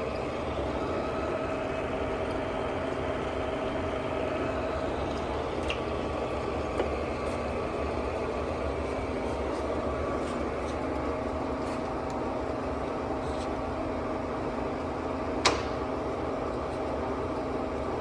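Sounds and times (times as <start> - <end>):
lathe gear-train hum: 0.0 - 18.0
steady machine whine: 0.0 - 18.0.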